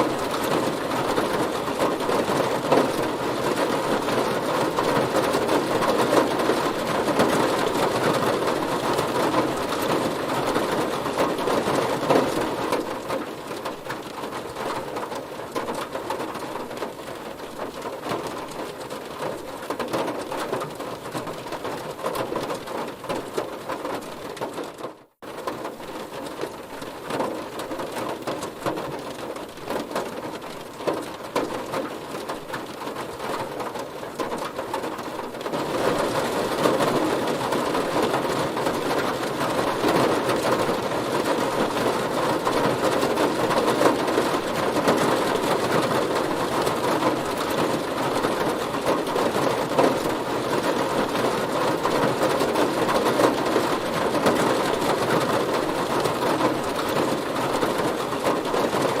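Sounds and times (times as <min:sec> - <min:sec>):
heavy rain drumming on a car: 0:00.0 - 0:59.0.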